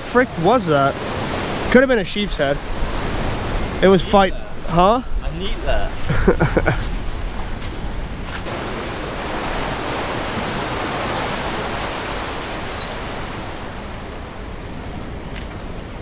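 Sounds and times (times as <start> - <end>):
waves and churning current: 0.0 - 16.0.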